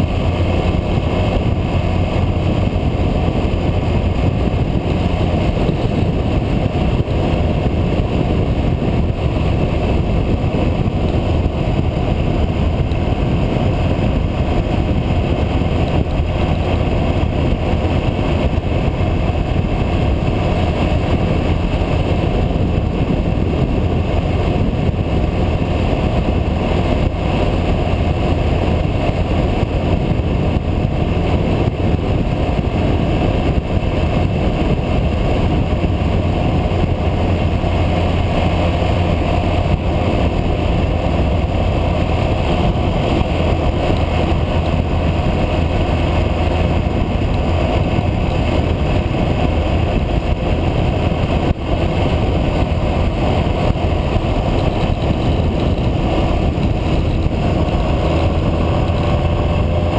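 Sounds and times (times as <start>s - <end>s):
motorcycle engine drone: 0.0s - 59.9s
wind on microphone: 0.0s - 59.9s.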